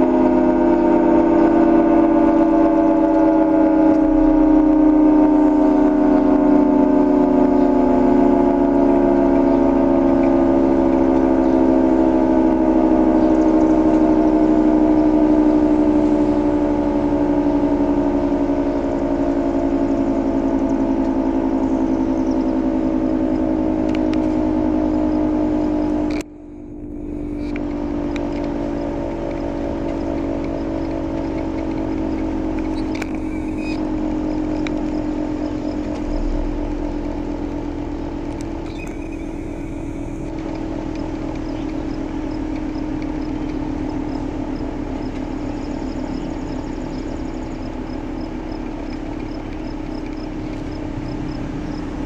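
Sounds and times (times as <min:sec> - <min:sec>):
rotating warning siren wailing: 0:00.0 - 0:52.0.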